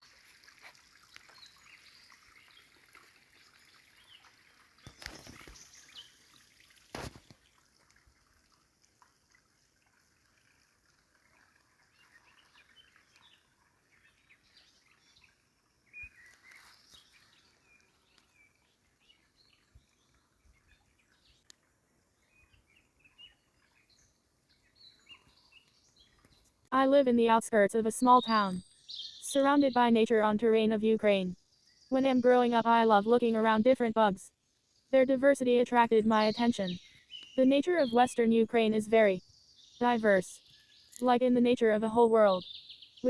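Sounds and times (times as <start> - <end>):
small birds chirping: 0.6 - 7.7, 11.3 - 43.0.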